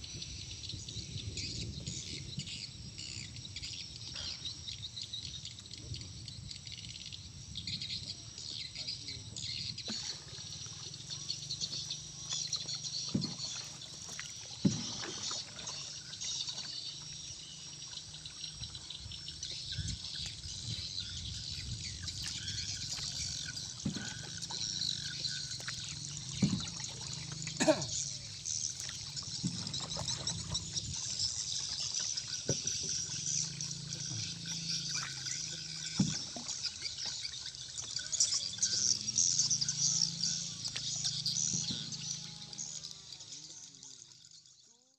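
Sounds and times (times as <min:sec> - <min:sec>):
insects chorus: 0:00.0 - 0:44.9
water trickling and lapping: 0:00.0 - 0:44.9.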